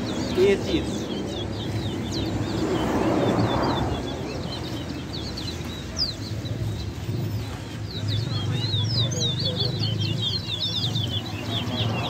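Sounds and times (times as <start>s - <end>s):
finches twittering: 0.0s - 12.0s.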